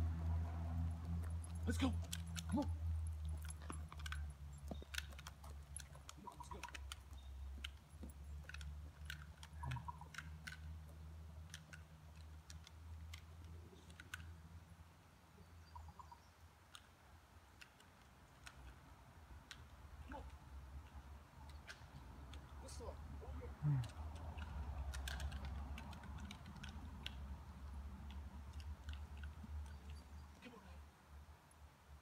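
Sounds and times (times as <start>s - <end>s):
faint sharp clicks and snaps: 0.2s - 15.1s, 16.6s - 22.6s, 23.8s - 30.6s.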